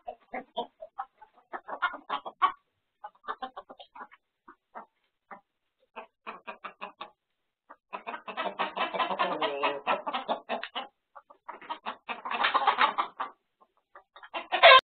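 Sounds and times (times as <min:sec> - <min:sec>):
chickens clucking and squawking: 0:00.0 - 0:14.8.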